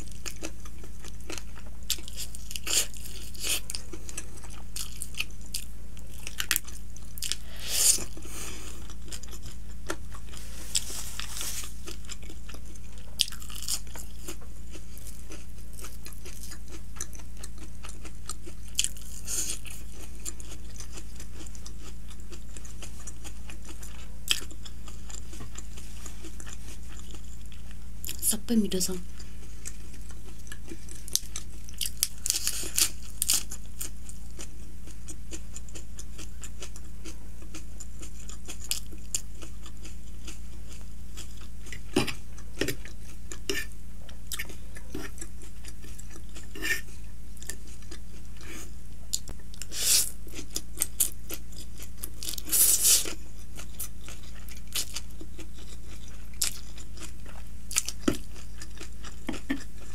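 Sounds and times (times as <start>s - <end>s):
chewing and crunching: 0.0s - 59.9s
steady low hum: 0.0s - 59.9s.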